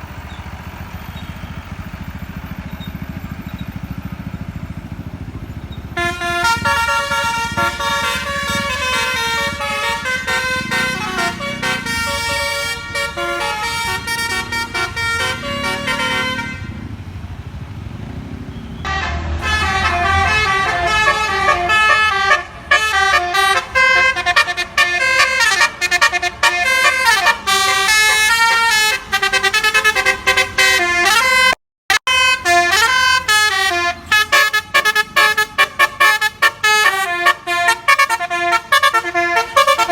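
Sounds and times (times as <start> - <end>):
vehicle engine rumbling: 0.0 - 39.9
multi-trumpet air horn: 6.0 - 16.9, 18.8 - 39.9.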